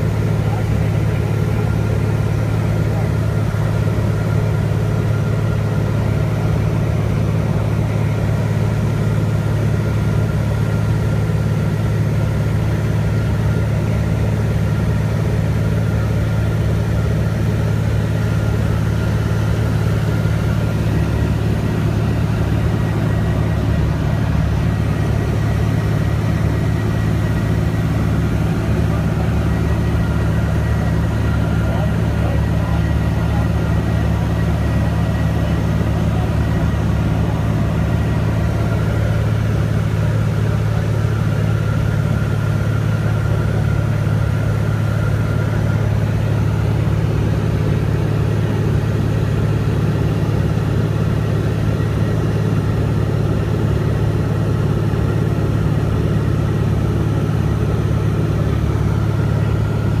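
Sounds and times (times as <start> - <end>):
airplane engine and propeller drone: 0.0 - 60.0.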